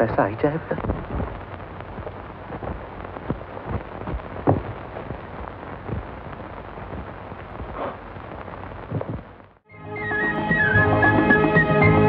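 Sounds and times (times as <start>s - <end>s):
old film soundtrack hiss and crackle: 0.0s - 12.0s.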